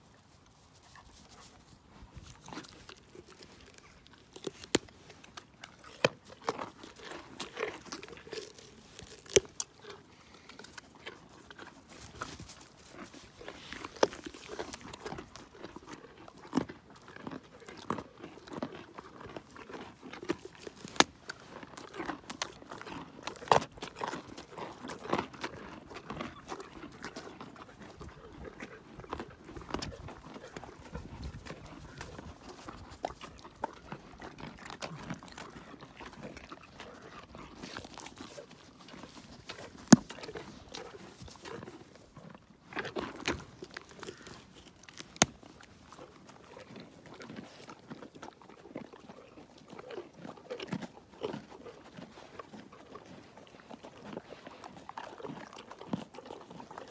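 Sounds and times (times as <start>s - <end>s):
horse crunching carrots: 0.0s - 56.9s
teeth grinding: 2.2s - 48.9s.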